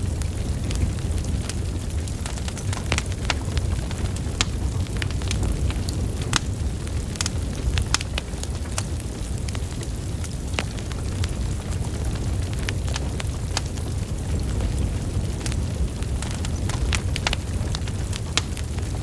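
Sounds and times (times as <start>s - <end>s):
burning logs crackling and popping: 0.0s - 19.0s
flames rumbling: 0.0s - 19.0s.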